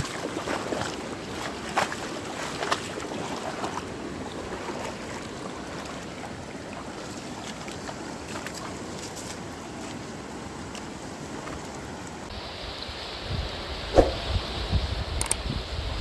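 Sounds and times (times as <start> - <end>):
river water rushing over stones: 0.0 - 13.3.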